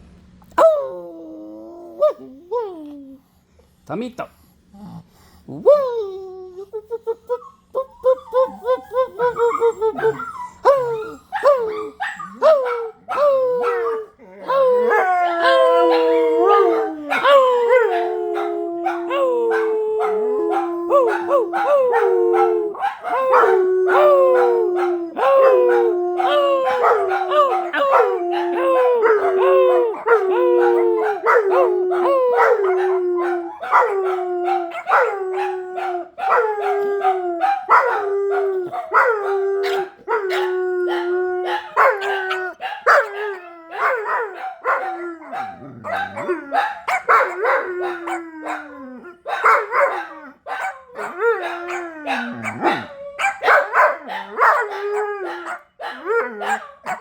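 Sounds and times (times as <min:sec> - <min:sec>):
dogs howling: 0:00.6 - 0:03.2, 0:07.3 - 0:57.0.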